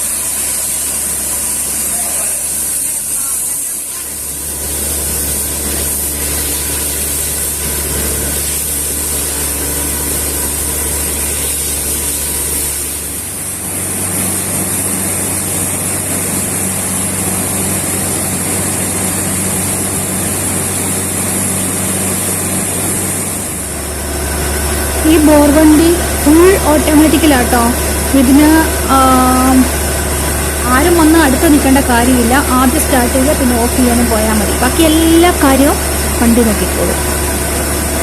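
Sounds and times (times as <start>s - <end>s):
drilling rig mechanical drone: 0.0s - 38.0s.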